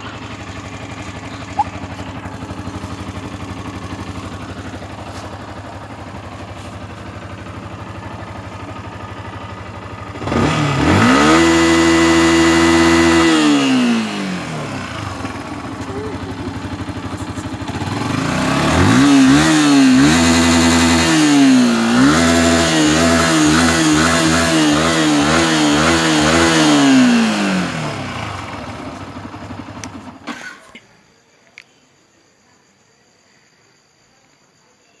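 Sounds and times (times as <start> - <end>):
motorcycle engine revving: 0.0 - 30.6.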